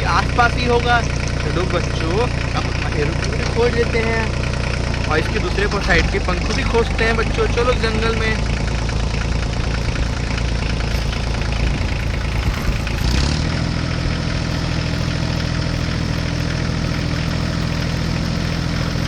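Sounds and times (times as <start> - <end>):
toy tractor engine drone: 0.0 - 19.0.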